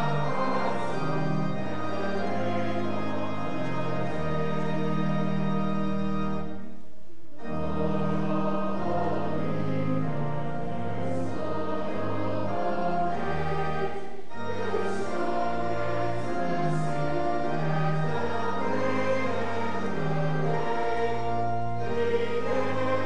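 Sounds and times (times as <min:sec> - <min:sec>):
choir singing: 0:00.0 - 0:06.5, 0:07.4 - 0:23.0
organ: 0:00.0 - 0:23.0.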